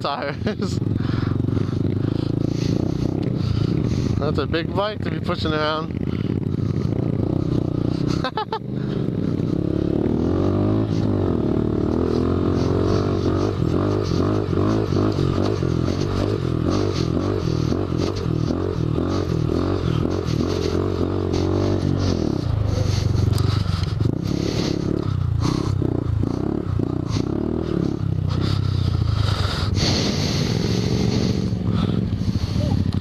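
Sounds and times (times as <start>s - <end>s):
motorcycle engine revving: 0.0s - 33.0s
tyres on dirt: 0.1s - 33.0s.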